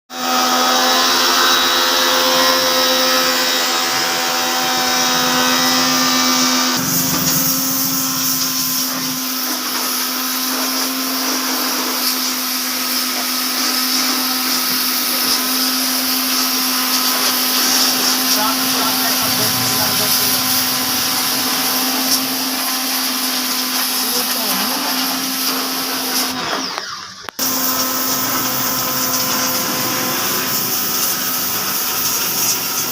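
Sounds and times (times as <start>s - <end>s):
pressure washer motor hum: 0.2s - 32.9s.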